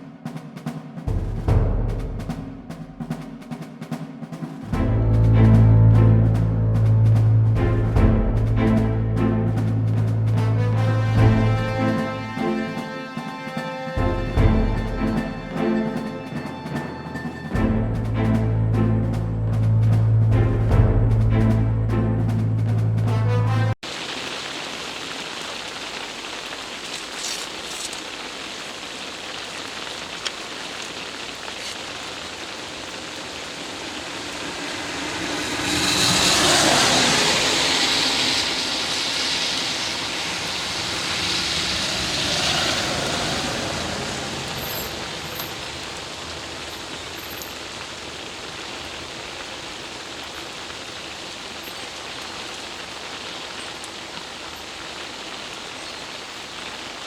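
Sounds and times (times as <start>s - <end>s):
rain hissing: 1.1s - 3.2s, 4.6s - 57.0s.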